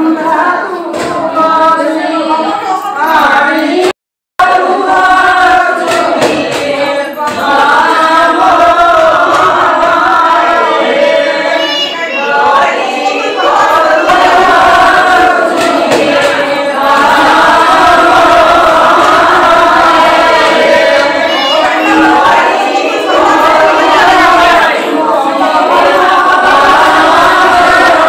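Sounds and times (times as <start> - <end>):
group singing devotional chant: 0.0 - 28.0.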